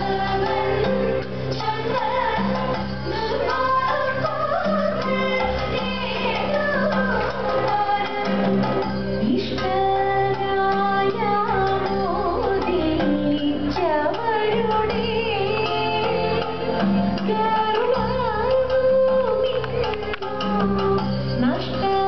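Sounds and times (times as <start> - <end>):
women singing: 0.0 - 22.0.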